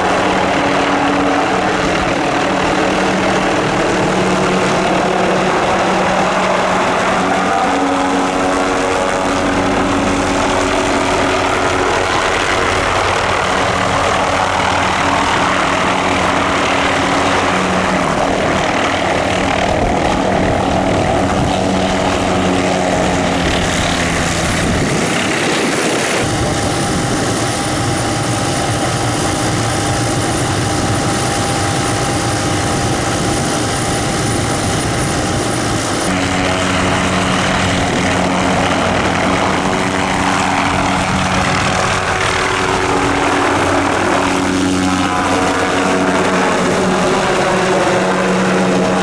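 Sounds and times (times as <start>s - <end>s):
helicopter turbine and rotors: 0.0s - 49.0s
high turbine whine: 0.0s - 49.0s.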